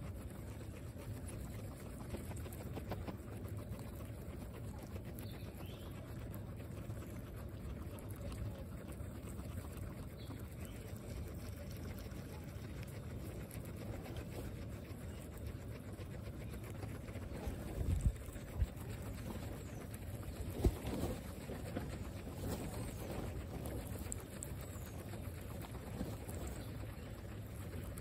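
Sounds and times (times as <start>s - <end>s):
guinea pigs chewing grass: 0.0s - 28.0s.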